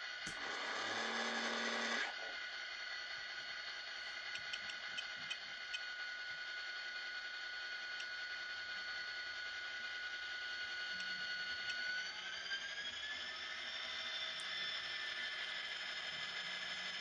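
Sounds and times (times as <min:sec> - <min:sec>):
loud whirring noise: 0:00.0 - 0:17.0
model locomotive motor whine: 0:00.0 - 0:17.0.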